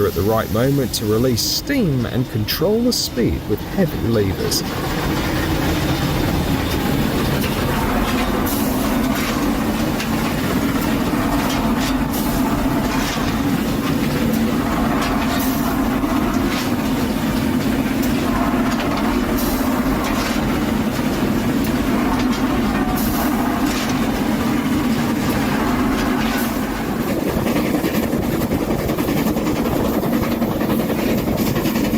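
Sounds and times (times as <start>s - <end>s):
train rumbling on track: 0.0s - 31.9s
wheels clicking on rails: 0.0s - 31.9s.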